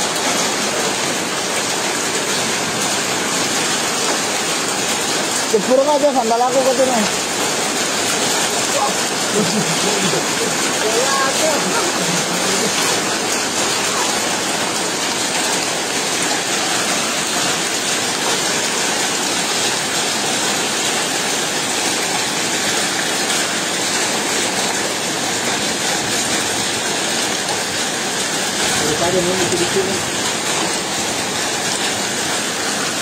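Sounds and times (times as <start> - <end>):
heavy rain and hail on stone: 0.0 - 33.0.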